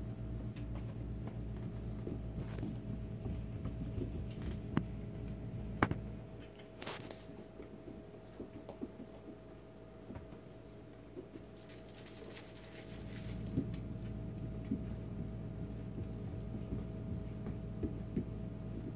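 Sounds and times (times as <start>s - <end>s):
steady low hum: 0.0s - 18.9s
hooves and claws on wooden floor: 0.1s - 18.9s.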